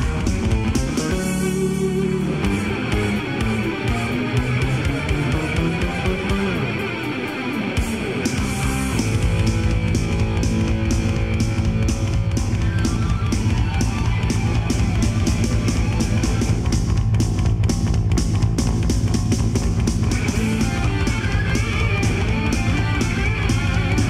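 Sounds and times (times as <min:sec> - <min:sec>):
rock music with guitars and drums: 0:00.0 - 0:24.0.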